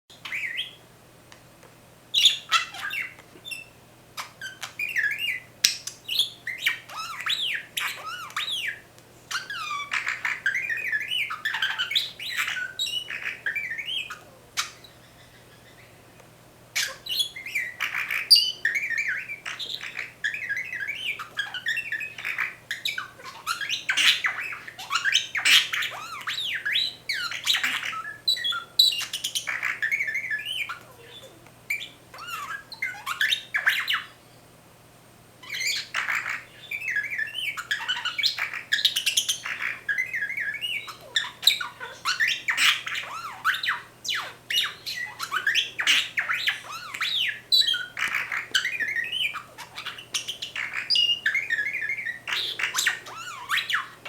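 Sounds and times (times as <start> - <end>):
budgerigar warbling and whistling: 0.1 - 0.8, 2.1 - 16.2, 16.8 - 34.2, 35.4 - 54.0.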